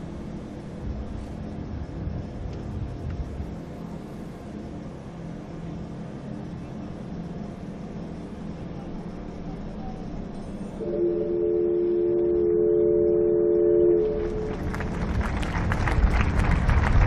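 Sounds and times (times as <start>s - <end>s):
faint low hum: 0.0s - 17.0s
outdoor background rumble: 0.0s - 17.0s.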